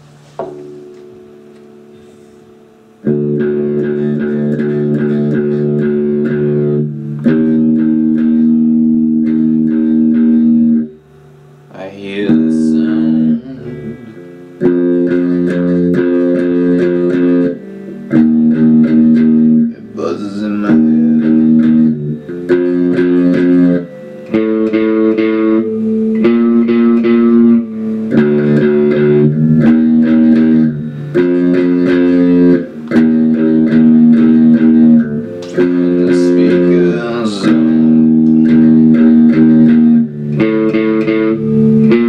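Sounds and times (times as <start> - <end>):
electric guitar chords: 0.0 - 42.0.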